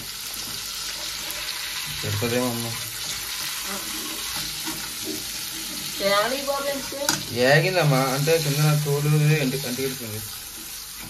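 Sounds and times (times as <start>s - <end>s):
fish sizzling in hot oil: 0.0s - 11.0s
spatula scraping pan: 0.4s - 11.0s.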